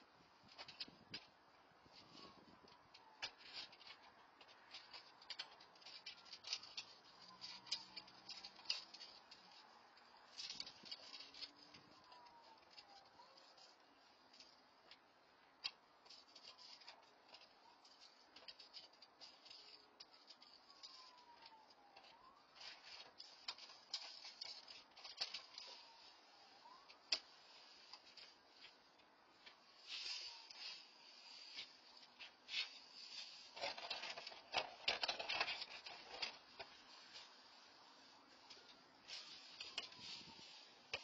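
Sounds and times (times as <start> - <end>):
rummaging clicks and rustling: 0.4 - 41.0.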